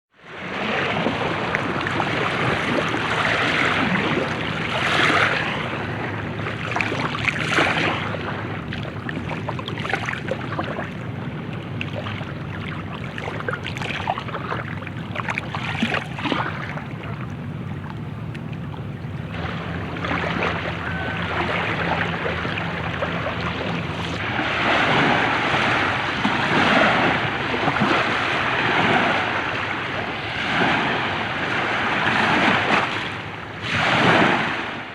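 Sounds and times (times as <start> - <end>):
ocean waves washing onto shore: 0.2 - 34.9
wind on microphone: 0.3 - 34.9
low rumble: 1.0 - 33.5.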